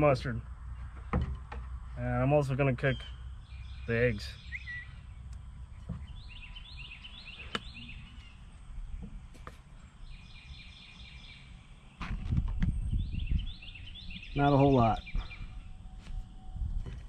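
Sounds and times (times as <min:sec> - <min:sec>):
low rumbling: 0:00.0 - 0:17.0
bird singing sliding notes: 0:02.0 - 0:16.6.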